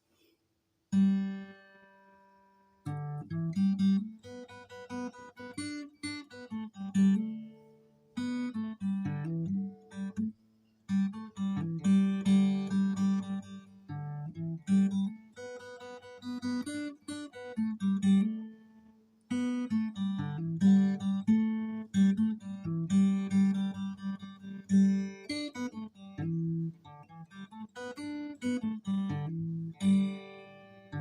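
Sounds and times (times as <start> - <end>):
acoustic guitar playing: 0.9 - 31.0.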